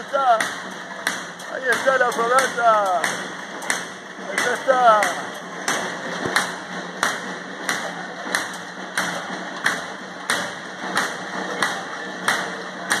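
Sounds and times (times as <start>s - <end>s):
metallic banging: 0.0s - 13.0s.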